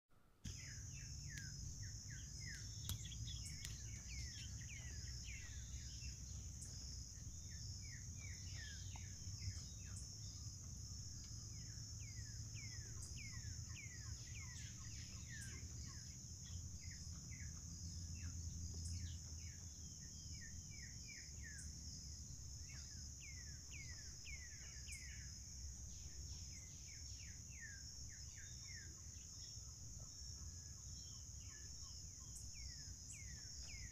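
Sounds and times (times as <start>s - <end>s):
birds chirping: 0.5s - 29.8s
high insect trill: 0.5s - 33.9s.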